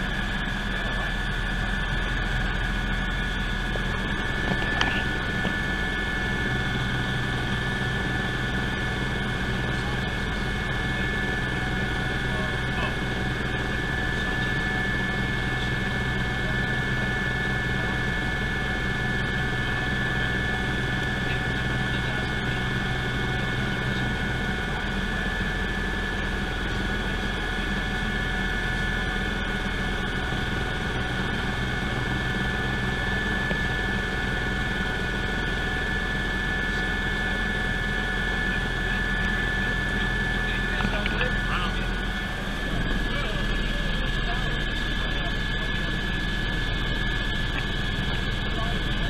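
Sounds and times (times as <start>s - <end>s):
helicopter cabin drone: 0.0s - 49.0s
high turbine whine: 0.0s - 49.0s.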